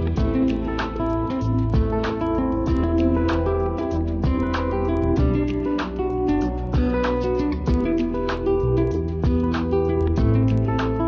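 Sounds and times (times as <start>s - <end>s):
bass line: 0.0s - 11.0s
strummed acoustic guitar: 0.0s - 11.0s.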